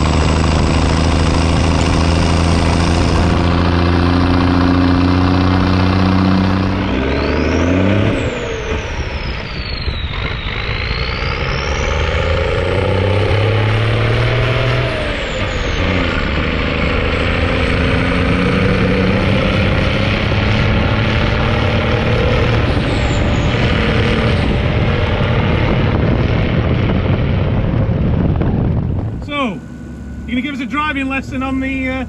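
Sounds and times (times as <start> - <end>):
truck engine under load: 0.0 - 32.0.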